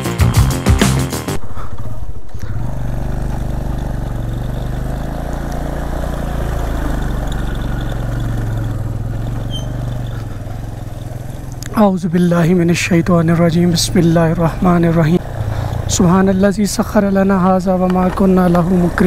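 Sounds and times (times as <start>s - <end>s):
motorcycle engine at low revs: 1.4s - 19.0s.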